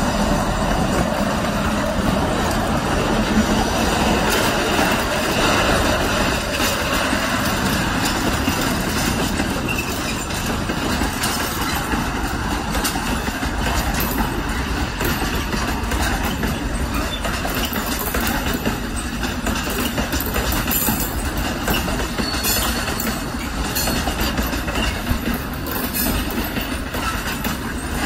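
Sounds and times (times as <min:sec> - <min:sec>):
clickety-clack of rail joints: 0:00.0 - 0:28.0
train wheels rumbling on rails: 0:00.0 - 0:28.0.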